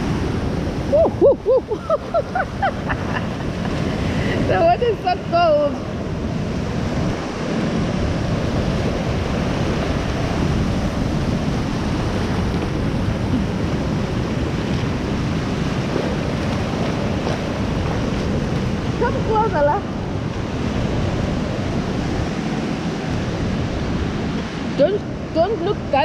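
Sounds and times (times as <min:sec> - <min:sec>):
surf waves breaking: 0:00.0 - 0:26.0
wind buffeting microphone: 0:00.0 - 0:26.0.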